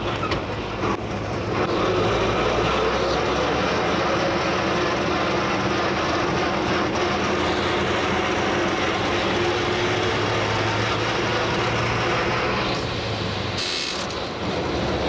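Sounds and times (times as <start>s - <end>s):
road and body rattle: 0.0s - 15.0s
truck engine drone: 0.0s - 15.0s.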